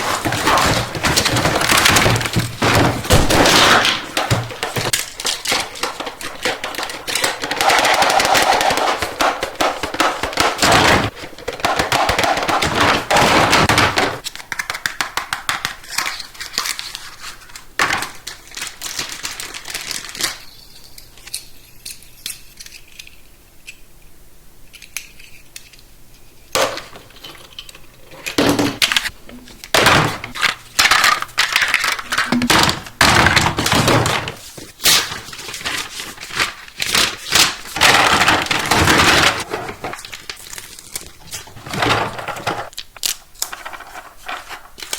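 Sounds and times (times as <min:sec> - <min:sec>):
plastic packaging crackling and clicking: 0:00.0 - 0:23.2, 0:26.6 - 0:44.9.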